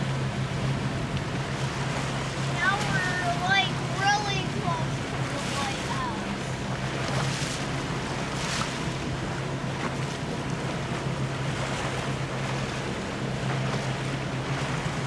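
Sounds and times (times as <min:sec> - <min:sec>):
boat engine droning: 0:00.0 - 0:15.0
water rushing against hull: 0:00.0 - 0:15.0.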